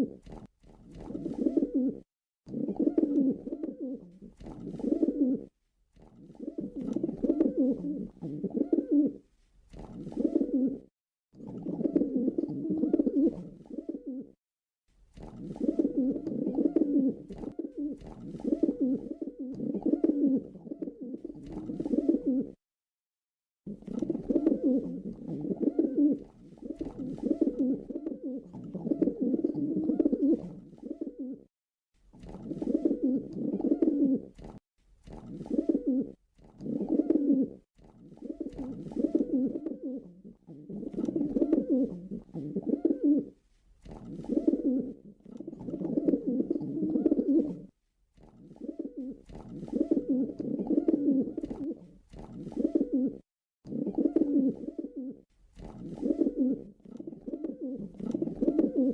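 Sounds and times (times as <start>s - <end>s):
pigeon cooing: 0.0s - 0.3s, 0.9s - 5.5s, 6.2s - 14.4s, 15.4s - 22.6s, 23.7s - 31.5s, 32.2s - 58.9s.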